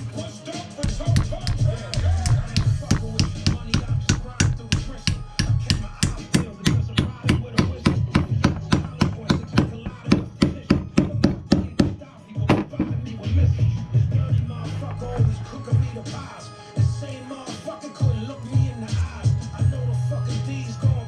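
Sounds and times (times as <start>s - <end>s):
background music with steady beat: 0.0s - 21.0s.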